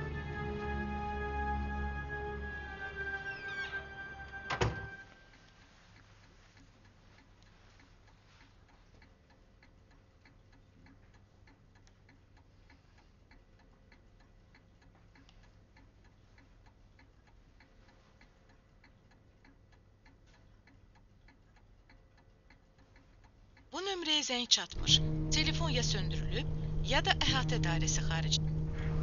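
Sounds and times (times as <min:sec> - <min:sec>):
low background hum: 0:00.0 - 0:29.0
faint ticking: 0:05.1 - 0:29.0.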